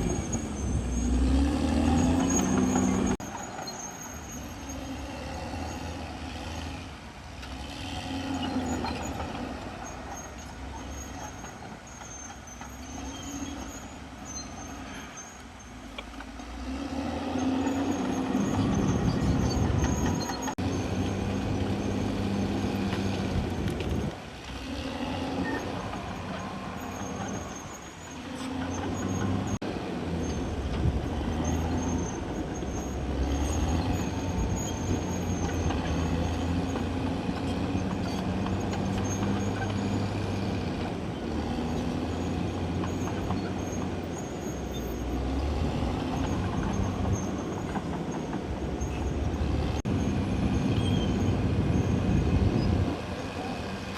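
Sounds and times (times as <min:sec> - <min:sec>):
bulldozer diesel engine: 0:00.0 - 0:53.9.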